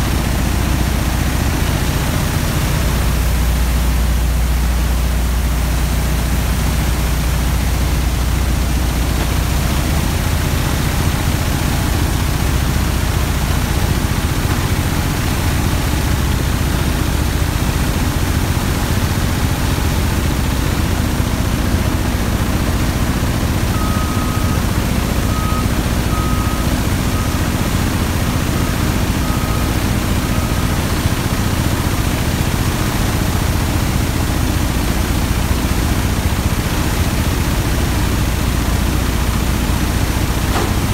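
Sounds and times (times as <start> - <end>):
loud machinery with low hum: 0.0 - 40.9.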